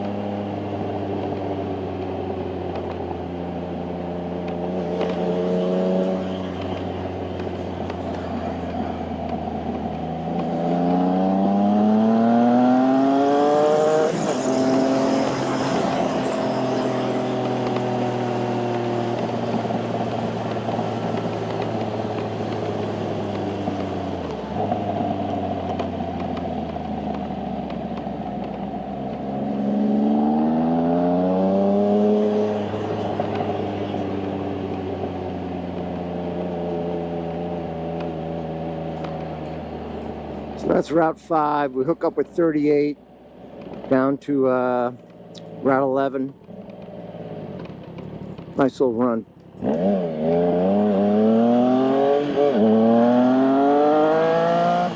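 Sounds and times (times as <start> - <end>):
motorcycle engine accelerating: 0.0 - 42.4, 43.5 - 54.9.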